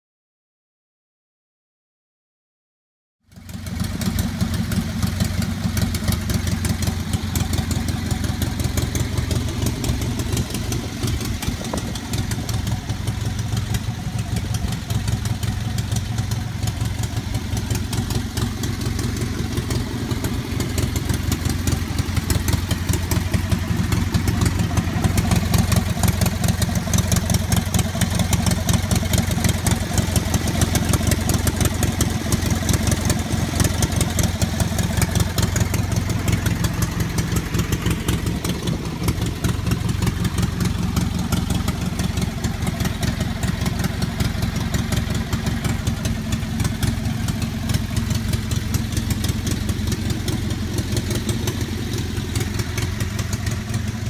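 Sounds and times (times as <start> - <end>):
engine idling putter: 3.3 - 54.0.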